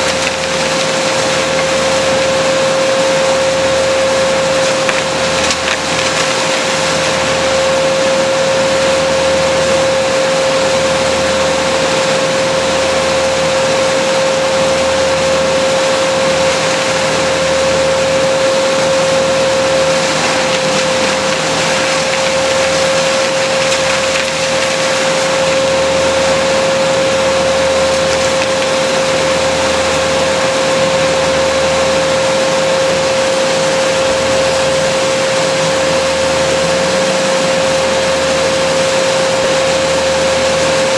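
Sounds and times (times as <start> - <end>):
petrol engine power tool running: 0.0 - 40.9.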